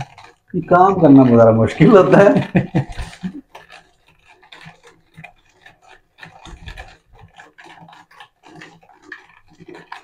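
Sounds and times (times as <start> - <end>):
spoon stirring in a jug: 0.0 - 10.0.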